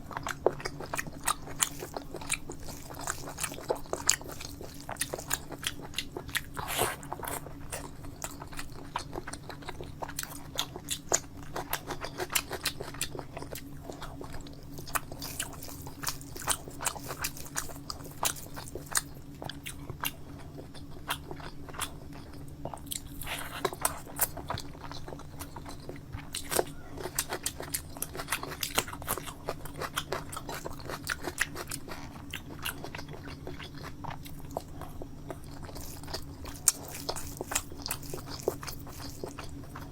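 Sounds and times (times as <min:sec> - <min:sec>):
steady low hum: 0:00.0 - 0:39.9
person chewing and biting: 0:00.1 - 0:39.9.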